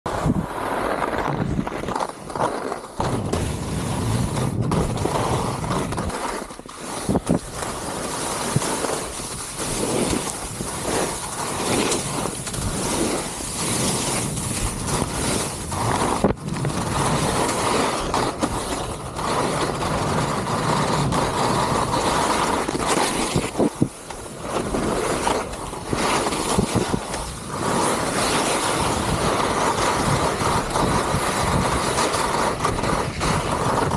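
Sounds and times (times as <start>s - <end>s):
wind rushing over microphone: 0.1s - 2.4s, 3.0s - 6.1s, 6.9s - 33.9s
skis scraping over snow: 0.1s - 33.9s.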